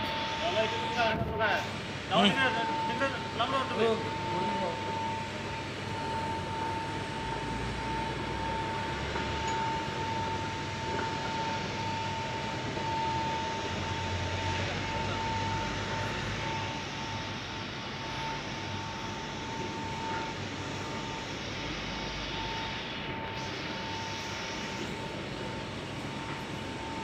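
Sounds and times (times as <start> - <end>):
screw conveyor hum and whine: 0.0 - 27.0.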